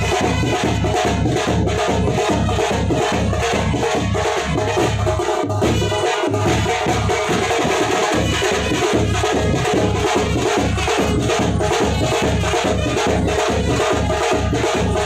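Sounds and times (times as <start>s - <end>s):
music with fast drum beat: 0.0s - 15.0s.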